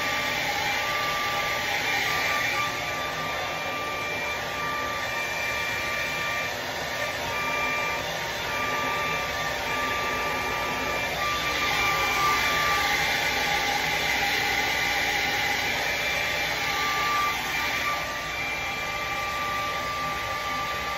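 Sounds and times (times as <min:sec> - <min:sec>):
hair dryer blowing: 0:00.0 - 0:20.9.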